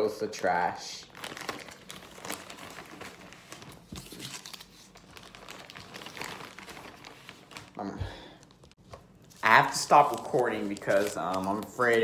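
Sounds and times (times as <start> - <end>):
foil wrapper and plastic bag crinkling: 1.0 - 12.0.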